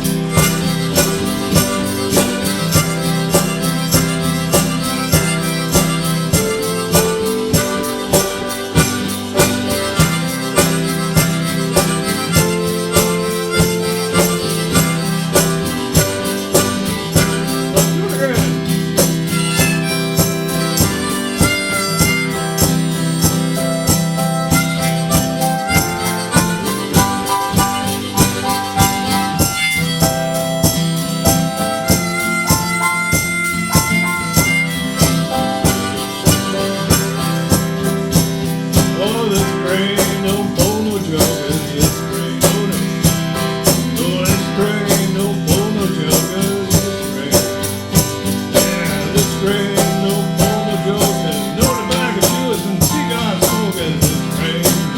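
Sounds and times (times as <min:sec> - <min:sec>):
harmonica playing: 0:00.0 - 0:54.9
strummed guitar rhythm: 0:00.0 - 0:54.9.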